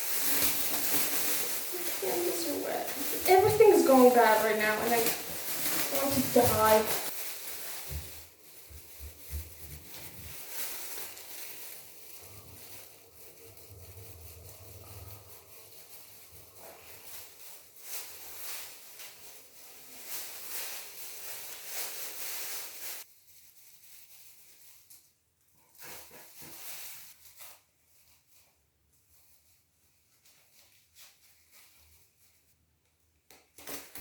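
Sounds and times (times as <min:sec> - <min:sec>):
rustling and handling: 0:00.0 - 0:34.0.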